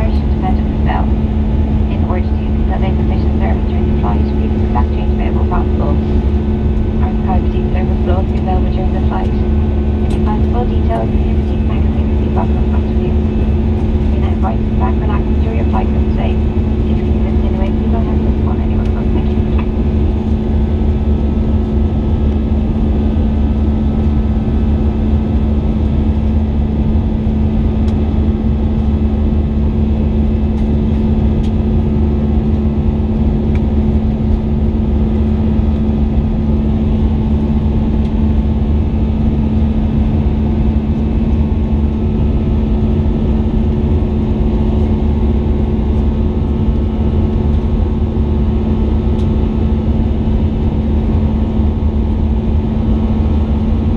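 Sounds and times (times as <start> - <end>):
jet engines droning: 0.0 - 53.9
steady cabin hum: 0.0 - 53.9.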